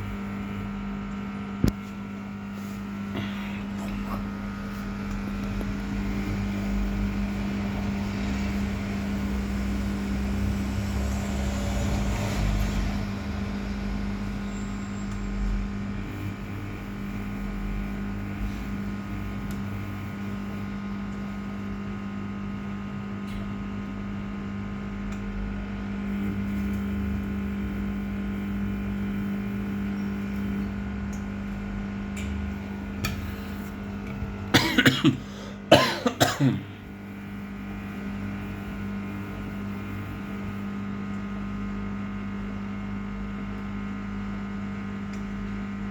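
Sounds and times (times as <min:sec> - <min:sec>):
washing machine motor hum: 0:00.0 - 0:45.9.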